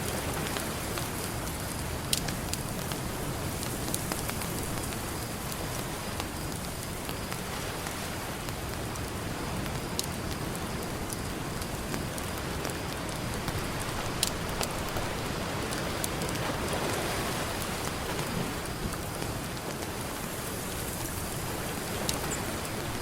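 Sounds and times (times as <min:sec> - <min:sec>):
campfire crackling and popping: 0:00.0 - 0:23.0
ocean surf: 0:00.0 - 0:23.0.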